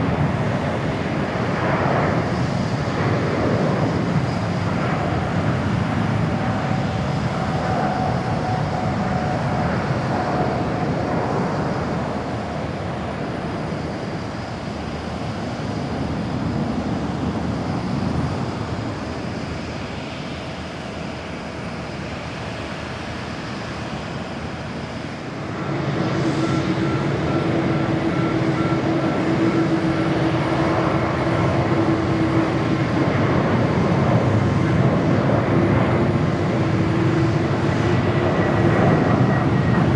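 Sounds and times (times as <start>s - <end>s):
jet engines taking off: 0.0s - 39.9s
jet engines whining: 0.0s - 39.9s.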